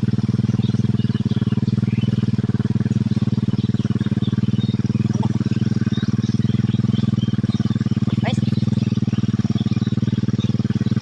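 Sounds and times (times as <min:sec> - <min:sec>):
birds chirping: 0:00.0 - 0:11.0
engine running steadily: 0:00.0 - 0:11.0.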